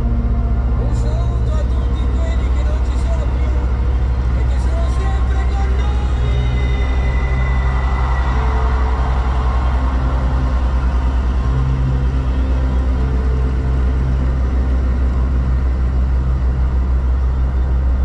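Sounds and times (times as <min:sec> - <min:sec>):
truck engine and tyre drone: 0:00.0 - 0:18.0.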